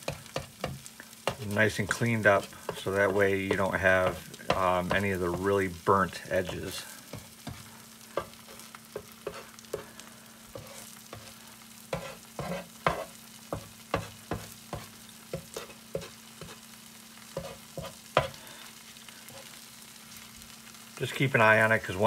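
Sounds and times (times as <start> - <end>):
spatula scraping griddle: 0.0 - 16.7, 17.3 - 18.5, 19.2 - 19.6
cheese sizzling: 0.0 - 22.0.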